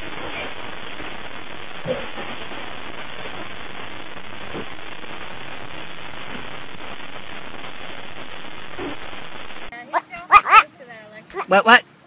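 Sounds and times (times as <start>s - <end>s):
static hiss: 0.0s - 9.7s.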